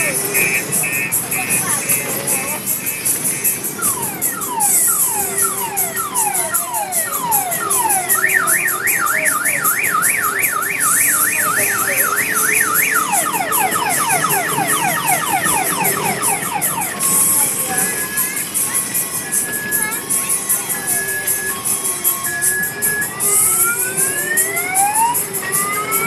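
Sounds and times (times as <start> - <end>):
electronic alarm siren: 0.0 - 19.9, 20.8 - 26.0.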